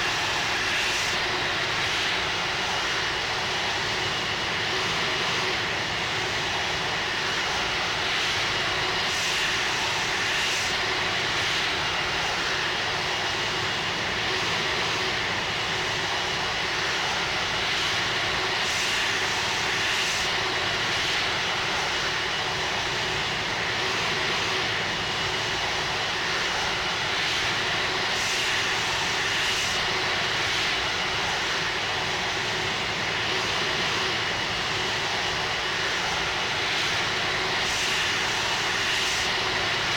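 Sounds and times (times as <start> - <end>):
faint steady whine: 0.0 - 39.9
jet engines running: 0.0 - 39.9.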